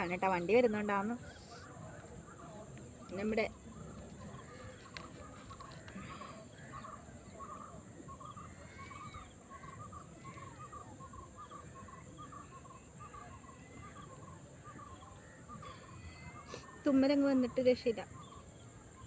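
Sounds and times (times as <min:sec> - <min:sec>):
bird gliding calls: 0:00.0 - 0:19.0
birds chirping: 0:00.0 - 0:19.0.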